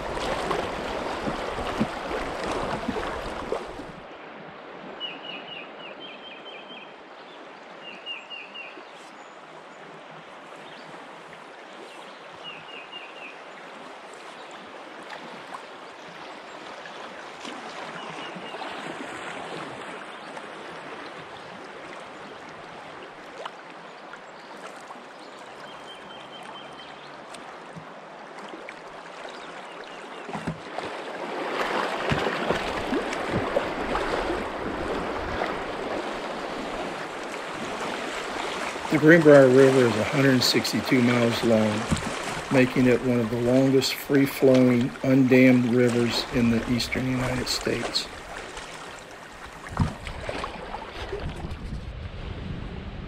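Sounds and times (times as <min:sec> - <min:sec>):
river water rushing and splashing: 0:00.0 - 0:52.6.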